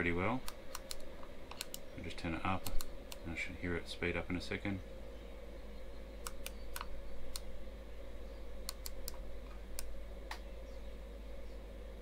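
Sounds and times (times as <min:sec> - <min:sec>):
heater fan humming: 0:00.0 - 0:12.0.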